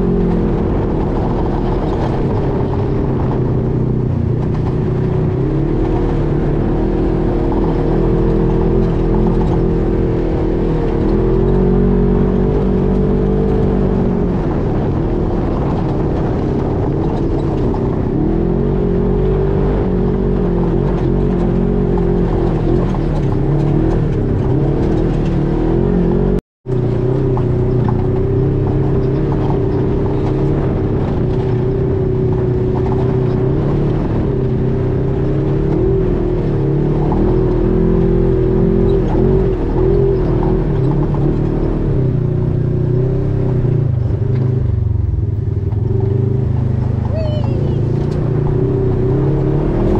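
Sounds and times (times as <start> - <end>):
utility vehicle engine running: 0.0 - 49.9.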